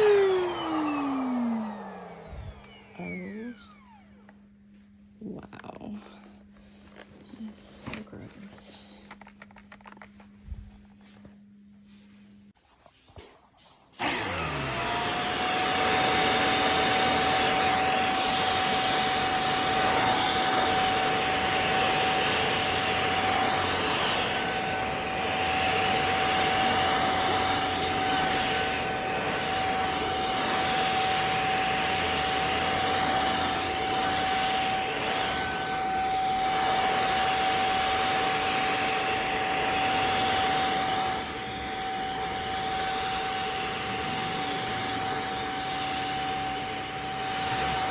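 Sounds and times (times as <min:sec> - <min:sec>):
vacuum motor whining: 0:00.0 - 0:04.7, 0:14.0 - 0:47.9.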